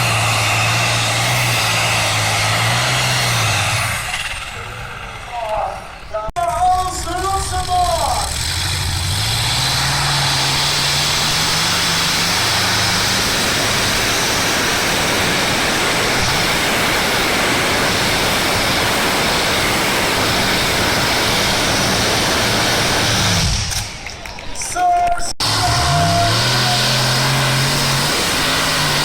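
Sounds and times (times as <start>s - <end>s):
tractor engine running flat out: 0.0s - 24.4s, 25.4s - 29.0s.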